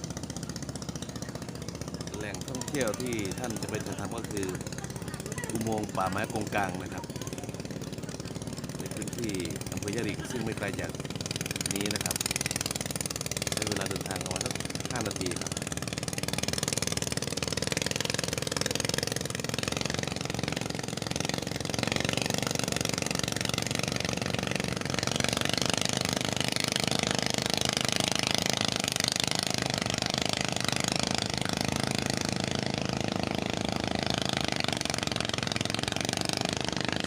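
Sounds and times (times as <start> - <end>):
engine running with rapid pulse: 0.0 - 37.0.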